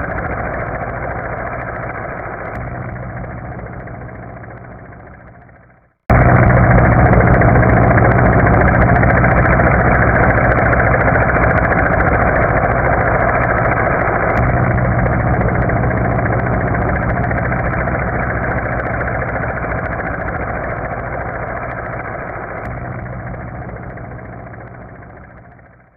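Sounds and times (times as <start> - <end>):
helicopter rotor and turbine: 0.0 - 25.9.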